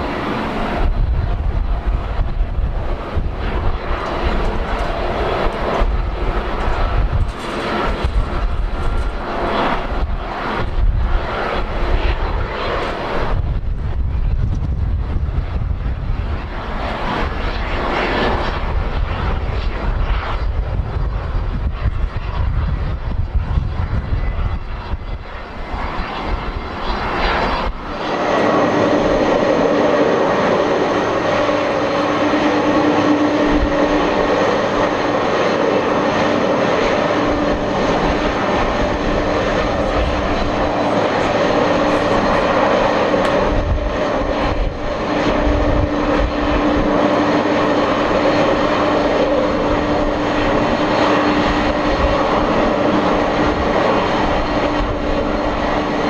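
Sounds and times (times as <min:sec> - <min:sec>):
jet engines idling: 0:00.0 - 0:56.0
wind rumble on microphone: 0:00.0 - 0:56.0.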